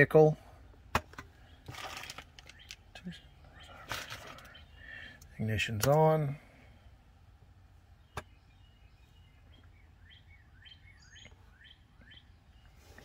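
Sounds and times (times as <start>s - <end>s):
bird chirping: 1.2s - 6.9s, 7.7s - 13.0s.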